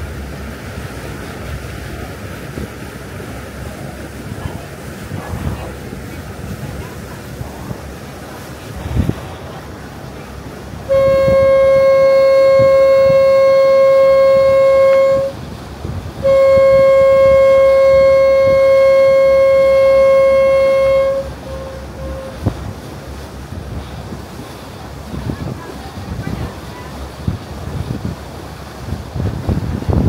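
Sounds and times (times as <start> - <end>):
boat horn blasts: 4.0 - 29.9.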